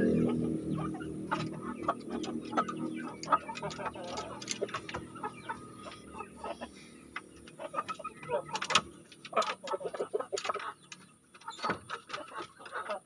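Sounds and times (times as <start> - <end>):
roosters clucking softly: 0.0 - 13.0
ticks and knocks in wooden cage: 0.8 - 13.0.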